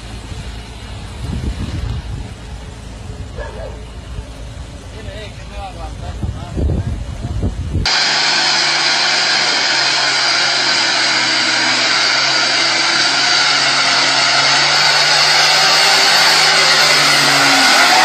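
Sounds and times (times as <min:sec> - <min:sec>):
heavy truck engine running: 0:00.0 - 0:18.0.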